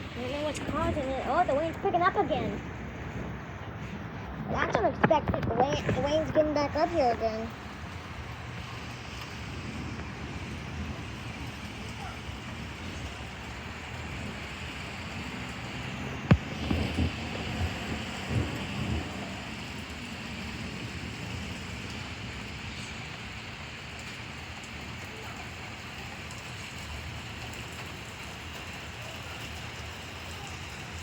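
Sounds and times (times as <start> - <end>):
steady rain: 0.0 - 31.0
thunder rumbling: 0.0 - 31.0.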